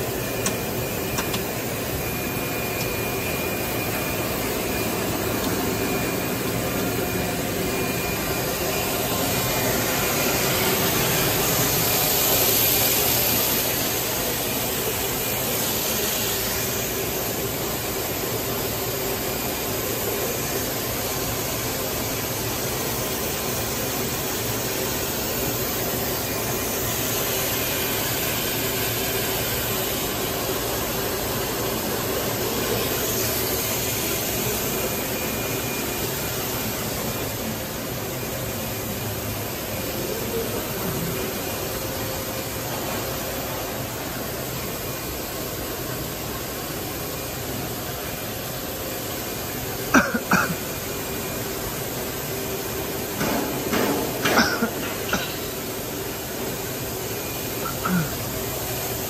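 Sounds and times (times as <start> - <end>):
extrusion machine hissing and humming: 0.0 - 59.0
faint steady machine whine: 0.0 - 59.0.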